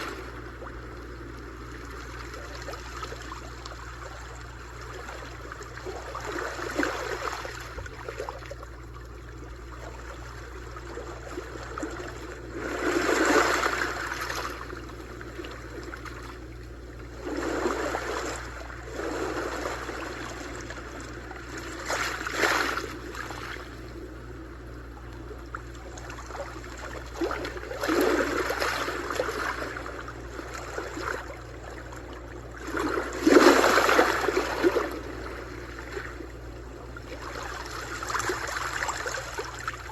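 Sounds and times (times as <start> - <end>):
sea waves washing ashore: 0.0 - 8.3, 9.9 - 39.9.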